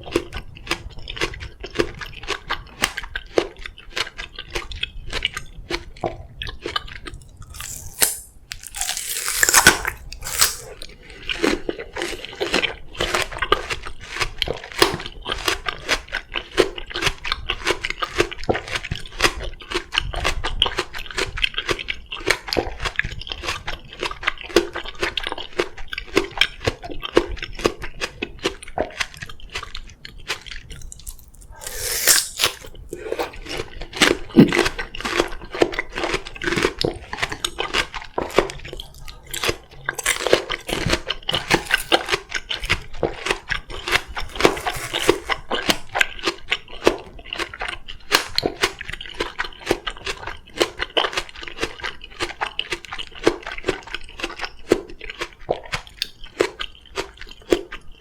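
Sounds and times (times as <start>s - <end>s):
chewing and crunching melon: 0.0s - 58.0s.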